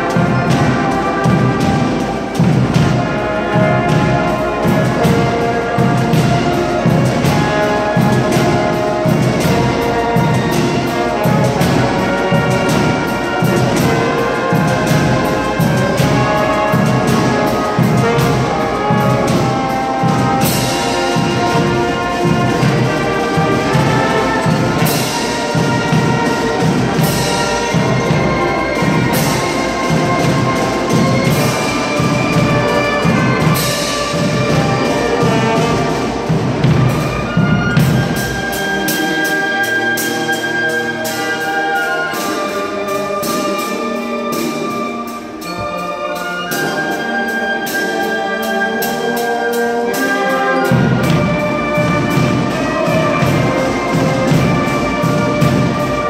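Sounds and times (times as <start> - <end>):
brass playing: 0.0 - 56.0
marching drum beats: 0.0 - 56.0.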